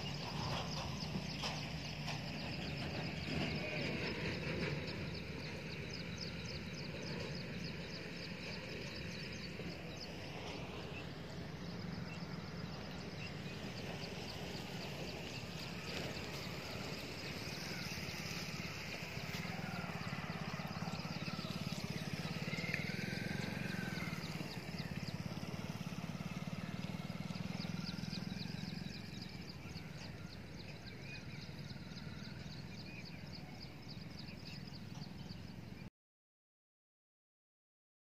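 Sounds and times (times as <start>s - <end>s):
low engine-like drone: 0.0s - 35.9s.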